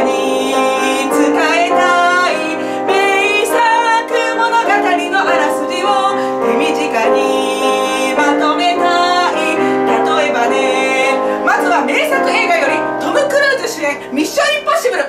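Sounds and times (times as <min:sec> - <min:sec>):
electronic keyboard chords: 0:00.0 - 0:14.7
woman singing with vibrato: 0:00.0 - 0:15.0.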